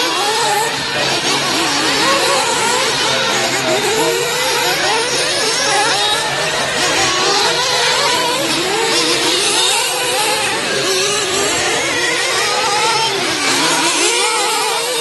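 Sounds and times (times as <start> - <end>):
rc car engines revving: 0.0 - 15.0.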